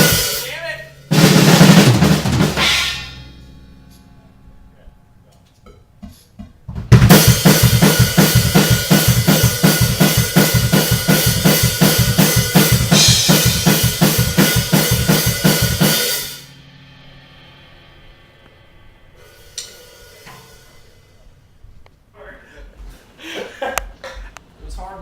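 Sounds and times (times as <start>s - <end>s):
drum kit beat with cymbals: 0.0s - 4.8s, 5.8s - 21.8s.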